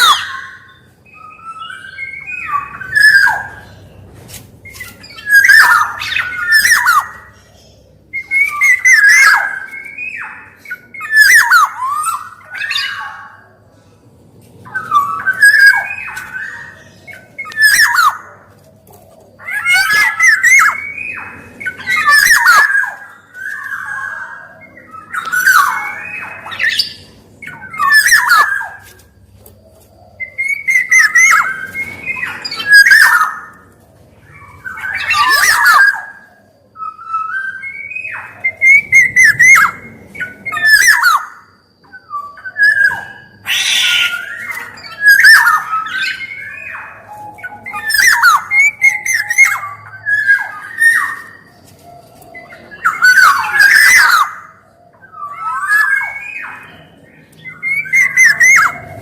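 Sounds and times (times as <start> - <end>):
bird calling: 0.0 - 59.0.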